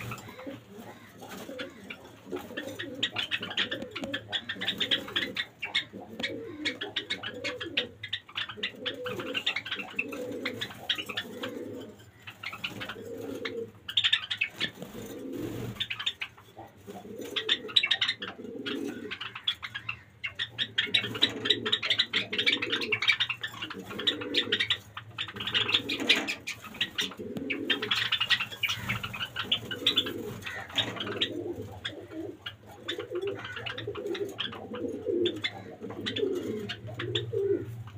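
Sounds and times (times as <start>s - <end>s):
pigeons cooing: 0.0s - 37.9s
sparrows chirping and clicking: 0.0s - 37.9s.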